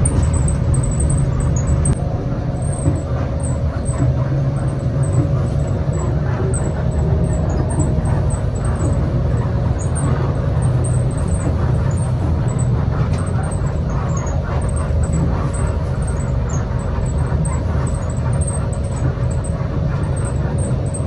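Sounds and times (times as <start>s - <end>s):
diesel engine rumble: 0.0s - 21.0s
road noise: 0.0s - 21.0s.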